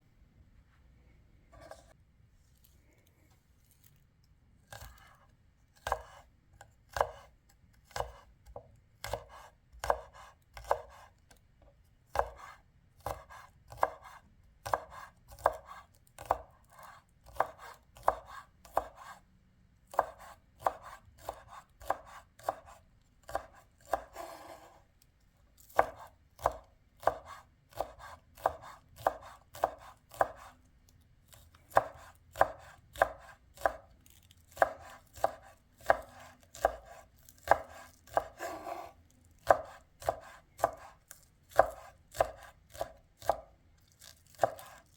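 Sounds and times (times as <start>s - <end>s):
knife chopping on cutting board: 1.5s - 2.0s, 4.7s - 11.1s, 12.1s - 19.2s, 19.9s - 24.8s, 25.6s - 30.6s, 31.3s - 33.9s, 34.5s - 44.9s.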